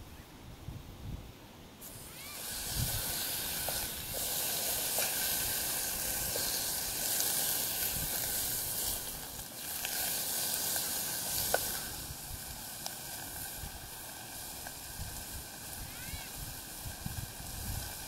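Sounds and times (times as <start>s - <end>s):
food sizzling in a pan: 1.8s - 18.0s
sharp crackles: 1.8s - 18.0s.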